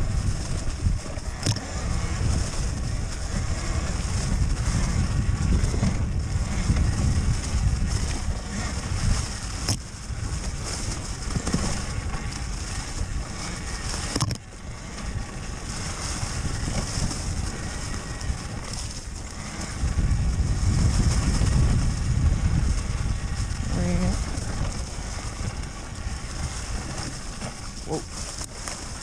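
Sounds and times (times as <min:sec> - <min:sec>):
bike rattle: 0:00.0 - 0:29.0
wind rumbling on microphone: 0:00.0 - 0:29.0.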